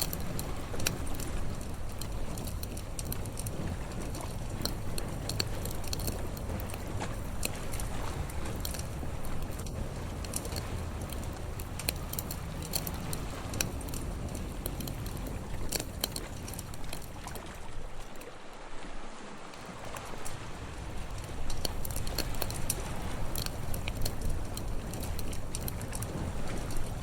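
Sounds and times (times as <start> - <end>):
campfire crackling and popping: 0.0 - 18.2, 19.6 - 27.0
wind: 0.0 - 27.0.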